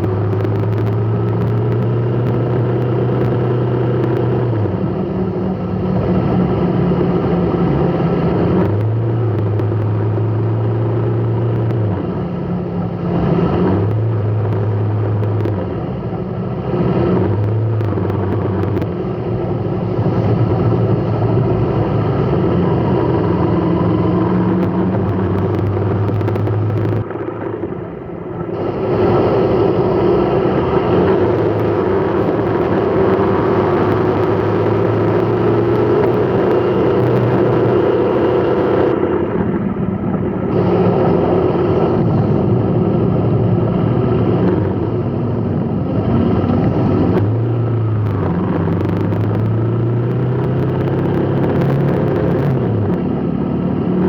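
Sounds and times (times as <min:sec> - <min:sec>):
road noise: 0:00.0 - 0:54.0
vehicle engine hum: 0:00.0 - 0:54.0.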